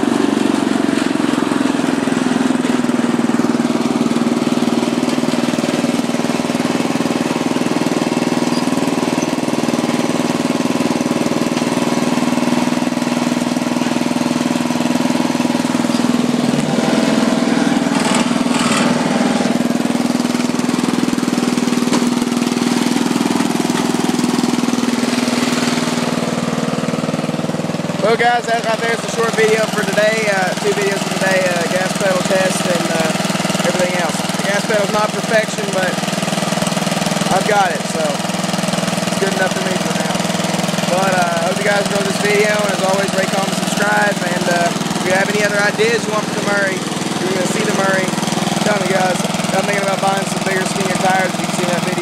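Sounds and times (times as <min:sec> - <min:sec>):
riding lawn mower engine: 0:00.0 - 0:52.0.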